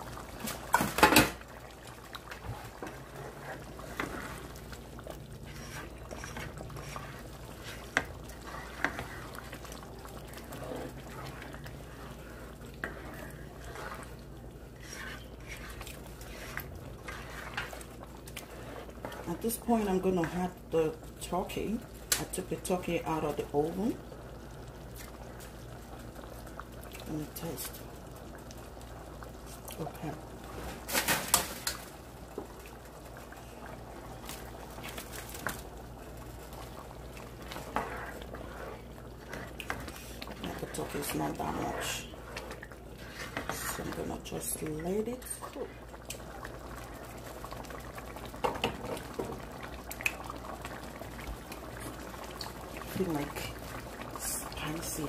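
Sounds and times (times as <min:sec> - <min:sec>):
sauce bubbling in a pot: 0:00.0 - 0:55.0.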